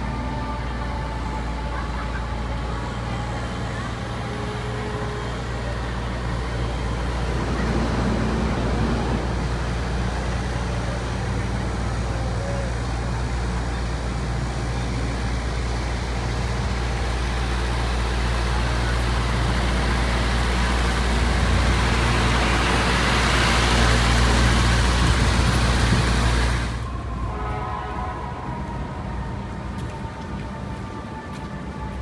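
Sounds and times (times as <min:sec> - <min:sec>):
engine hum: 0:00.0 - 0:27.4
road and tyre noise: 0:00.0 - 0:32.0.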